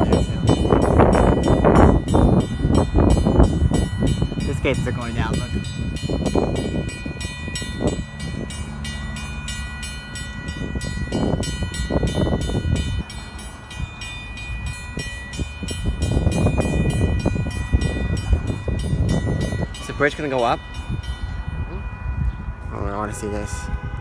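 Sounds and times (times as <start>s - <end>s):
warning bell ringing: 0.0s - 24.0s.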